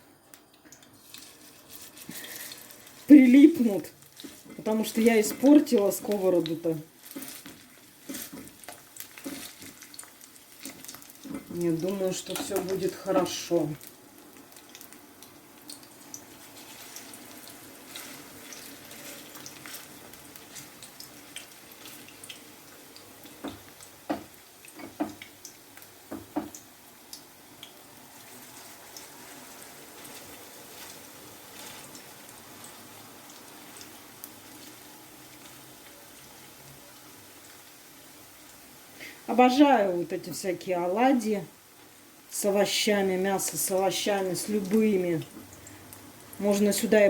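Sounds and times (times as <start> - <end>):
fritters sizzling in oil: 0.4 - 47.0.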